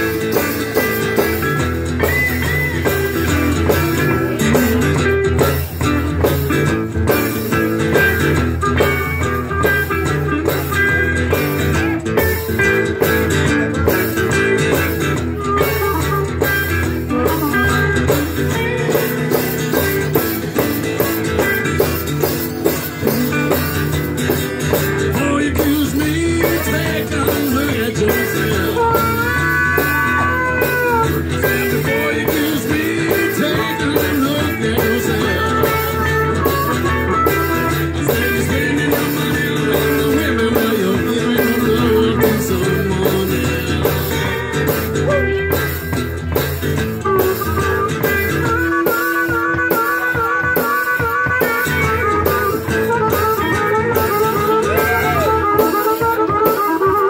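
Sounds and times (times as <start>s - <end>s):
electric guitar: 0.0s - 57.0s
harmonica bending notes: 0.0s - 57.0s
steady beat: 0.0s - 57.0s
strummed acoustic guitar: 0.0s - 57.0s.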